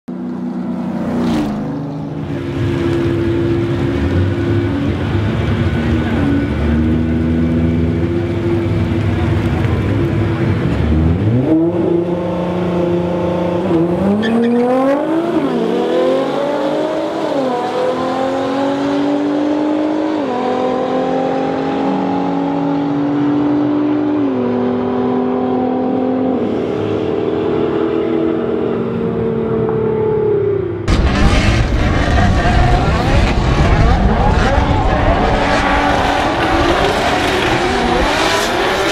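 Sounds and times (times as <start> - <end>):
race car engines accelerating: 0.1 - 38.9.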